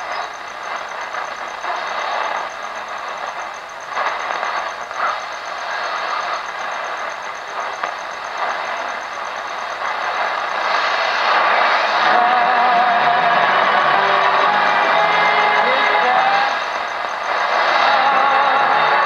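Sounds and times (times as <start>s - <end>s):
high pulsing whine: 0.0s - 19.0s
radio static hissing: 0.0s - 19.0s.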